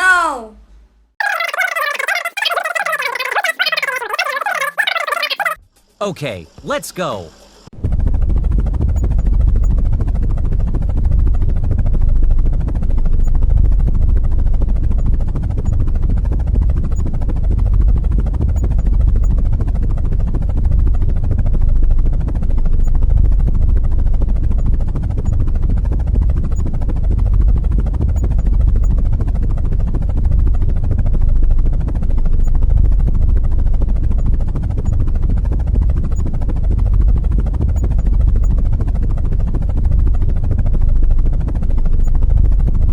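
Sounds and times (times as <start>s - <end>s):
helicopter rotor whir: 1.2s - 42.9s.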